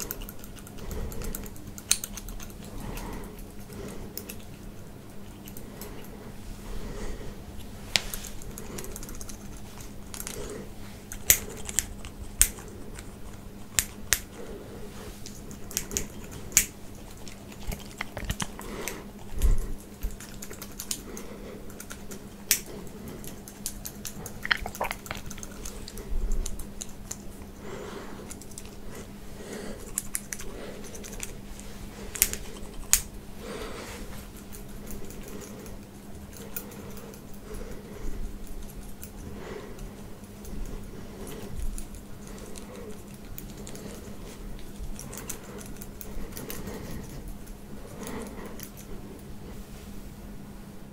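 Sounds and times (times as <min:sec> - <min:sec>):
crisp clicks and snips: 0:00.0 - 0:06.2, 0:07.6 - 0:14.5, 0:15.2 - 0:27.5, 0:28.2 - 0:29.1, 0:29.7 - 0:33.2, 0:34.2 - 0:49.3.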